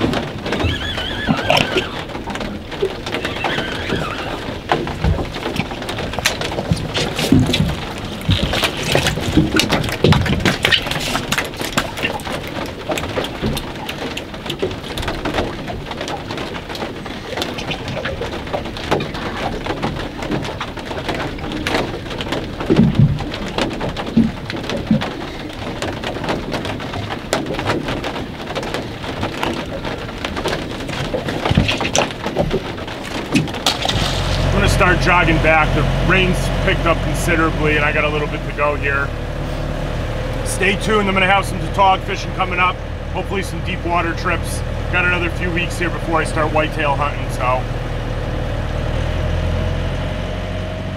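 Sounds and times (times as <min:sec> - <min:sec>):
rain drops pattering: 0:00.0 - 0:50.9.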